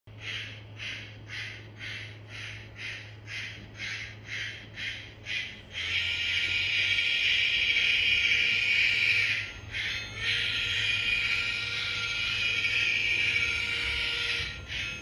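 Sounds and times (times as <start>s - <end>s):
low steady hum: 0.1s - 15.0s
steam locomotive chuffing: 0.1s - 15.0s.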